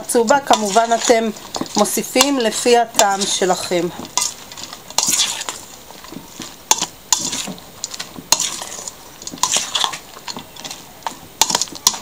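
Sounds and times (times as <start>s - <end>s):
hand squishing wet batter: 0.0s - 12.0s.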